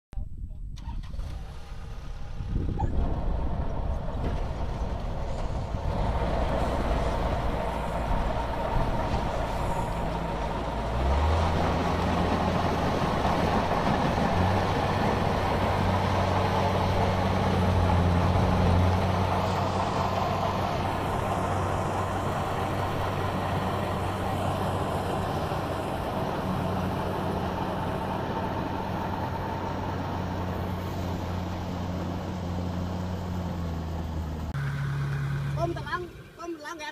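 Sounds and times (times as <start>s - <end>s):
combine harvester diesel engine drone: 0.8s - 36.9s
machinery whirring: 2.9s - 33.8s.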